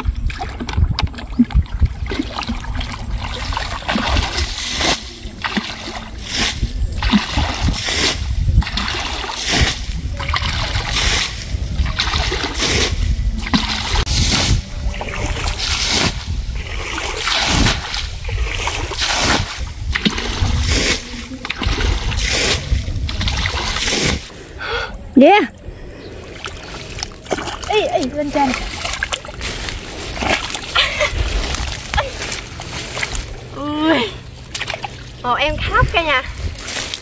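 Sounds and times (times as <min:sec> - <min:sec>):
bucket scooping and splashing water: 0:00.0 - 0:24.4, 0:26.2 - 0:37.0.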